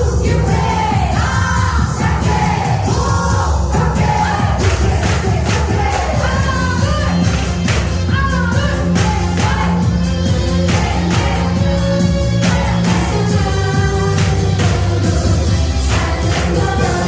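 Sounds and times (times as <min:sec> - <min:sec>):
upbeat pop song with singing: 0:00.0 - 0:17.0.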